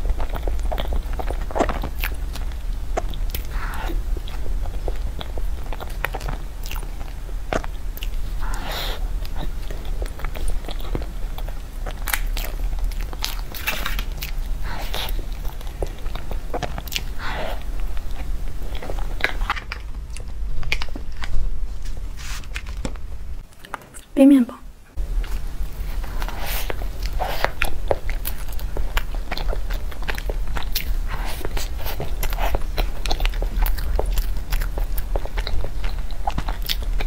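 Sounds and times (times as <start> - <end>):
wet chewing and lip sounds: 0.0 - 24.1, 24.9 - 37.0
steady low hum: 0.0 - 37.0.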